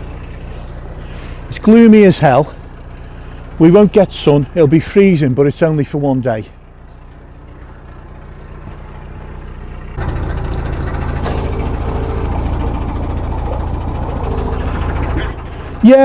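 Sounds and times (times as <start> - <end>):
boat diesel engine running: 0.0 - 16.0.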